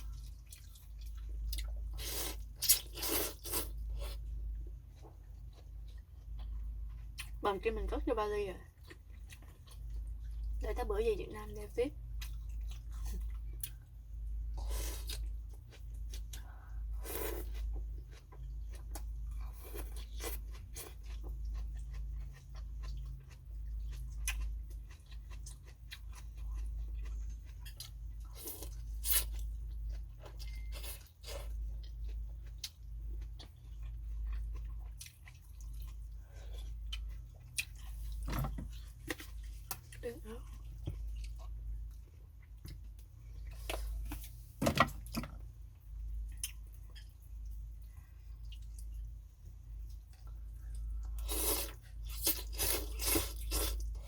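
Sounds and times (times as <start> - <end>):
person chewing and eating: 0.0 - 7.4, 8.6 - 10.6, 12.0 - 54.0
steady low hum: 0.0 - 54.0.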